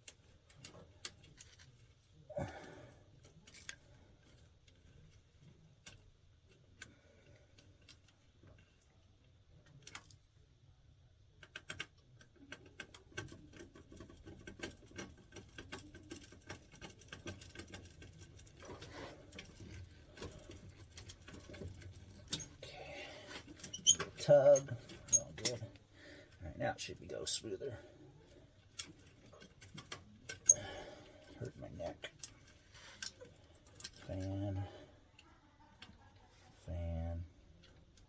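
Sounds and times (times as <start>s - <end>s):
clicking and scratching of wiring work: 0.0s - 38.0s.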